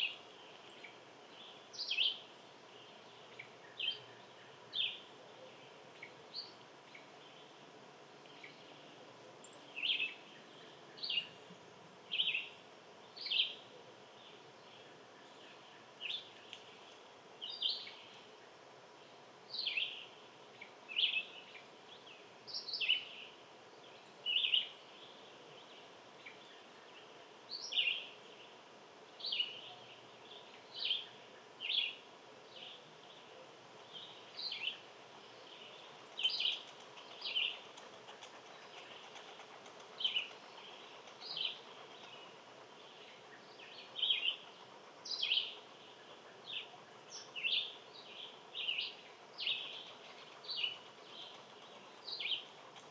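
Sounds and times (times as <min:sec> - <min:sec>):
faint background hiss: 0:00.0 - 0:52.9
songbird chirping: 0:00.0 - 0:52.9.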